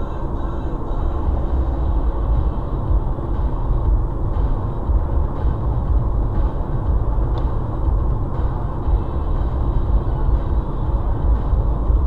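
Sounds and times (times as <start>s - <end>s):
car road noise from cabin: 0.0s - 12.0s.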